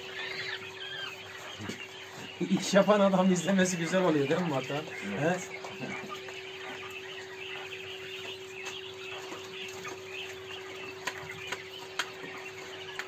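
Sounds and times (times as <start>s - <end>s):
birds chirping and clucking: 0.0s - 13.0s
steady hum: 0.0s - 13.0s.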